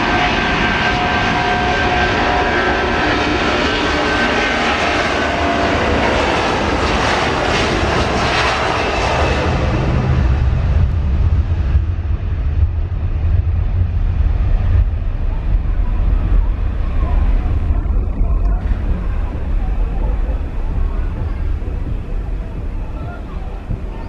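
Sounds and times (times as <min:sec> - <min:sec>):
jet engines at takeoff power: 0:00.0 - 0:24.0.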